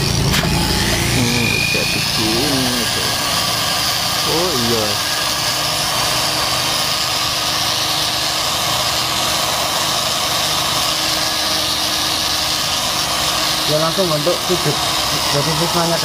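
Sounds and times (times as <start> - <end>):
electric cutter scoring wood: 0.0 - 16.0.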